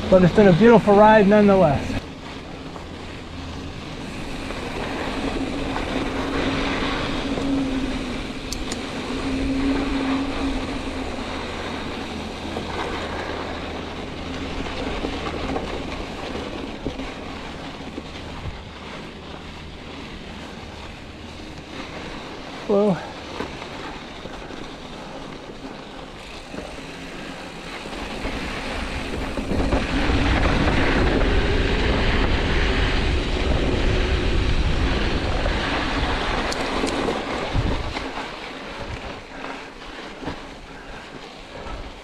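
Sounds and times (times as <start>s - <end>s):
bike rattle: 0.0s - 42.0s
bike tyres crunching on dirt: 0.0s - 42.0s
wind buffeting microphone: 0.0s - 42.0s.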